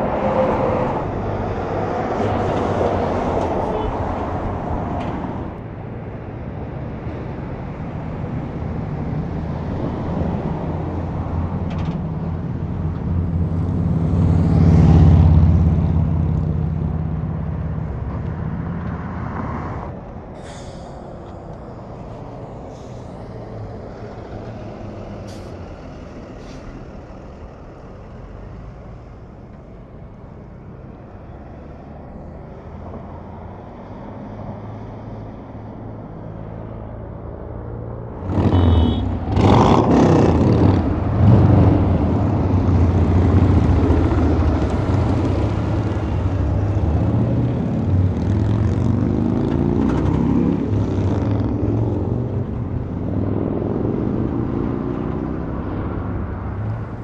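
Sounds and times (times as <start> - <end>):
loud truck engine: 0.0 - 57.0
low diesel hum of trucks: 0.0 - 57.0.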